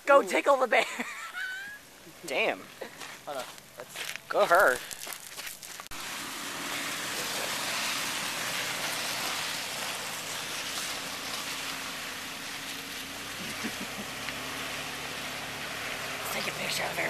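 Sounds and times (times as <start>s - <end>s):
vehicle engine low hum: 1.2s - 17.0s.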